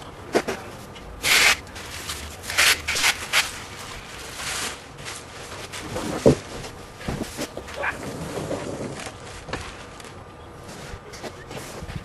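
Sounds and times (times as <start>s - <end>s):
rubbing and scraping: 0.4s - 10.0s.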